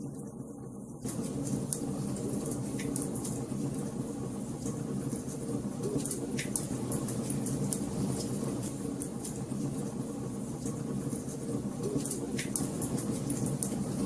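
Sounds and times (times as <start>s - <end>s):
wood fire crackling: 1.0s - 14.0s.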